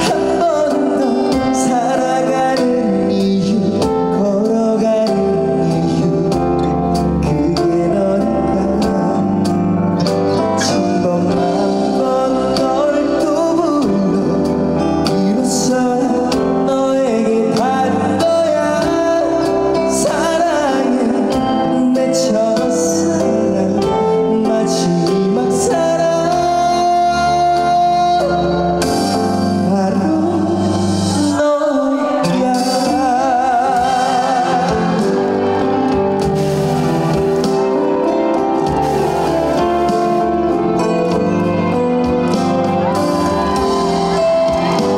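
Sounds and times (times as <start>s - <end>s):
man singing with vibrato: 0.0s - 38.3s
live band accompaniment: 0.0s - 44.9s.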